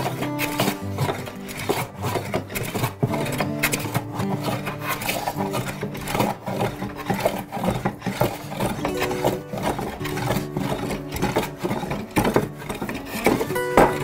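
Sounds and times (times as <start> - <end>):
background music: 0.0 - 14.0
hand plane shaving wood: 0.0 - 14.0.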